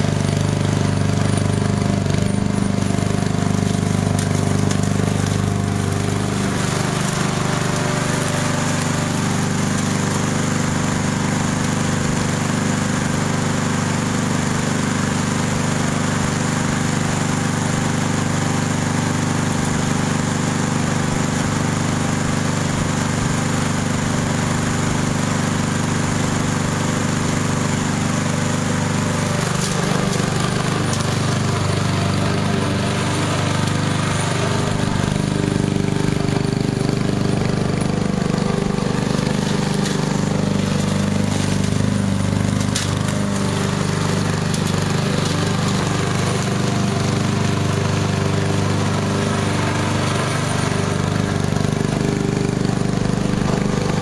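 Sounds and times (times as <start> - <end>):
lawnmower engine running: 0.0 - 54.0.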